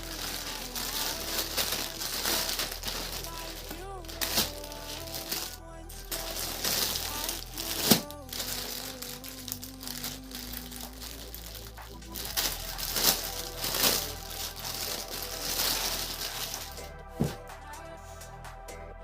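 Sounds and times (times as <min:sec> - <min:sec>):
sharp crackles of packaging: 0:00.0 - 0:17.3
packaging crinkling and rustling: 0:00.0 - 0:17.4
quiet background music: 0:00.0 - 0:19.0.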